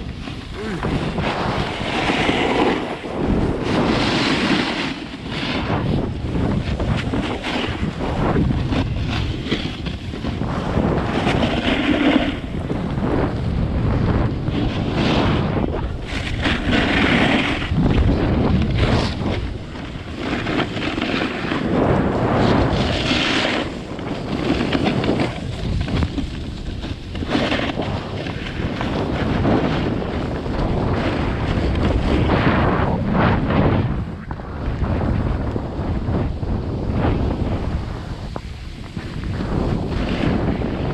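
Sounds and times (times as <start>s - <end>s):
snowboard scraping over snow: 0.0s - 40.9s
wind buffeting microphone: 0.0s - 40.9s.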